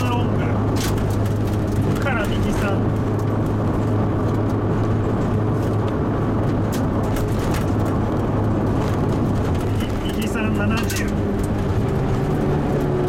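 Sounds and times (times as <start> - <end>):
car engine droning: 0.0 - 13.0
tyre and road noise: 0.0 - 13.0.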